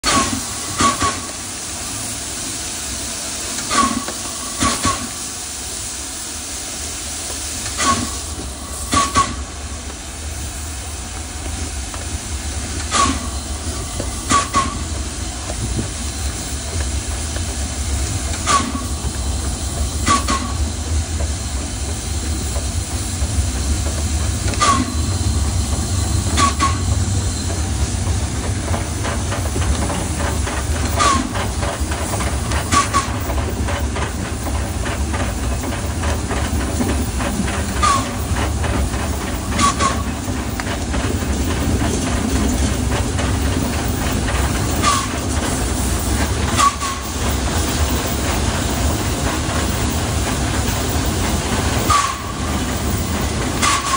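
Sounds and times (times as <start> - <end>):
steam locomotive hissing: 0.0 - 53.9.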